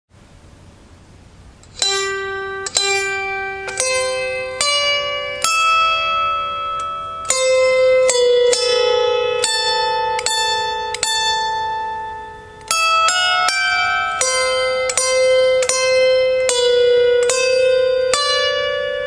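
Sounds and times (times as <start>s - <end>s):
harp plucked melody: 1.6s - 19.0s.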